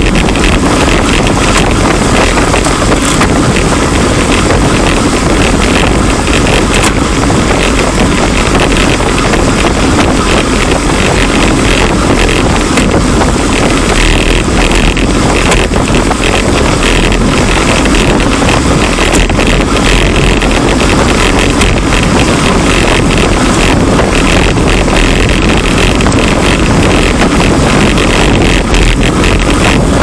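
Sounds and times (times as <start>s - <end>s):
road and tyre noise: 0.0s - 30.0s
wind buffeting microphone: 0.0s - 30.0s.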